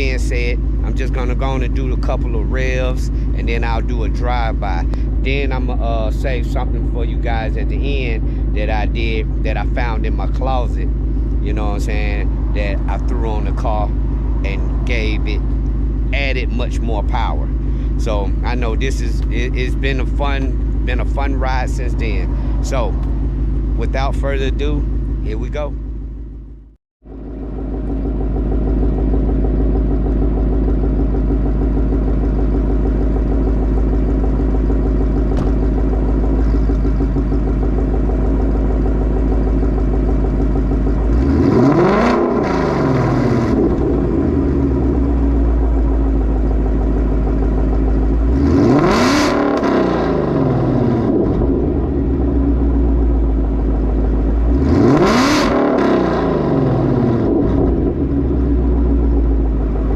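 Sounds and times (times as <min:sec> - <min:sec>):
engine revving: 0:00.0 - 0:25.8, 0:27.4 - 0:59.9
car engine idling: 0:00.0 - 0:59.9.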